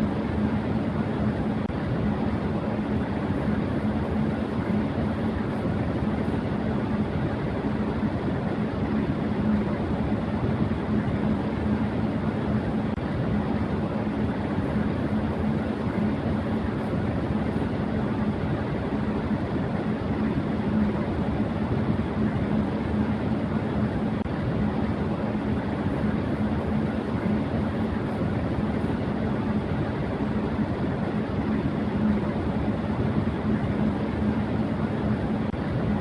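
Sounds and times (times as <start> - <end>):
electric fan running: 0.0 - 36.0.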